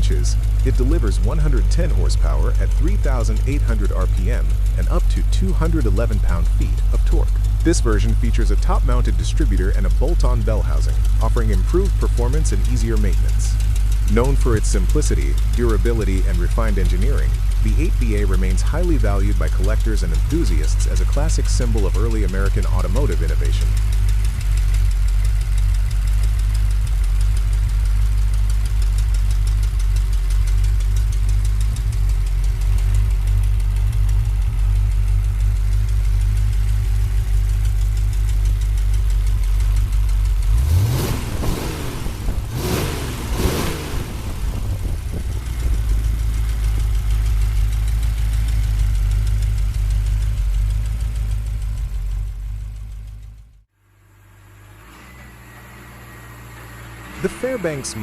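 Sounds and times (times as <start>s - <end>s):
engine revving: 0.0s - 53.3s, 54.4s - 58.0s
car engine idling: 0.0s - 58.0s.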